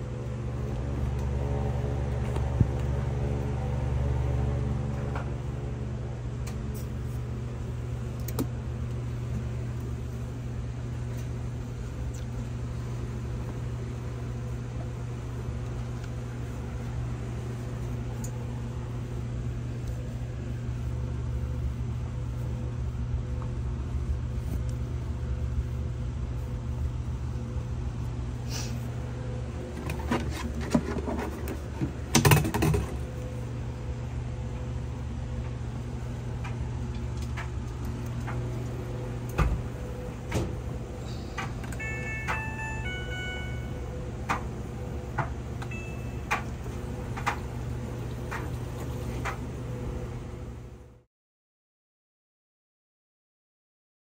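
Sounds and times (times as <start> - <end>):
low machine hum: 0.0 - 51.1.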